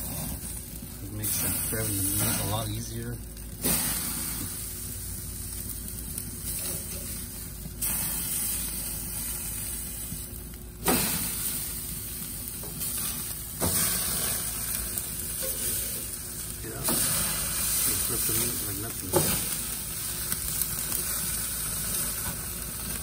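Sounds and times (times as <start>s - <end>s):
steaks sizzling on a grill: 0.0s - 23.0s.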